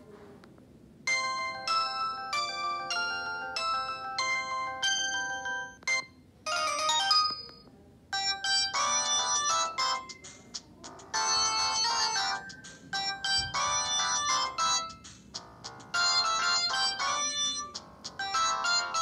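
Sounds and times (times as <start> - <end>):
polyphonic phone ringtones: 1.1 - 7.6, 8.2 - 19.0.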